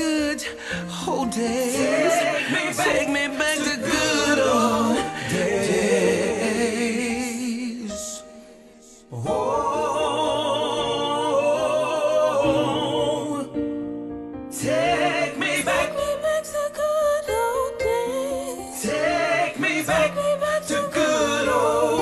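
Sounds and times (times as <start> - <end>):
wavering drawn-out singing: 1.5 - 7.7, 9.2 - 13.6, 14.6 - 22.0.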